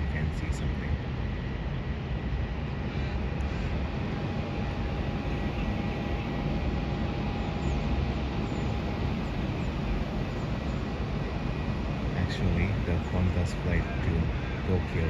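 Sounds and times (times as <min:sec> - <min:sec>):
distant jet engines rumbling: 0:00.0 - 0:15.0
faint high engine whine: 0:00.0 - 0:15.0.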